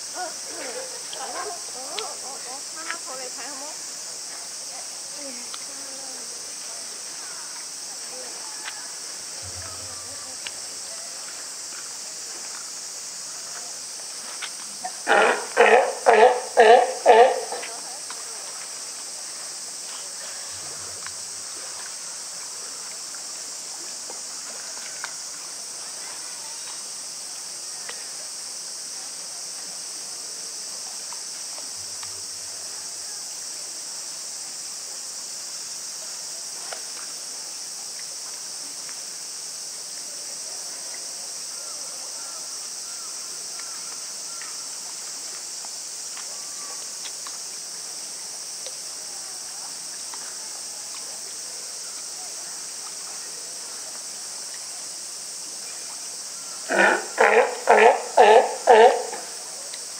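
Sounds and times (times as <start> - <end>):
pool water trickling: 0.0 - 35.2, 43.2 - 59.9
insects droning: 0.0 - 59.9.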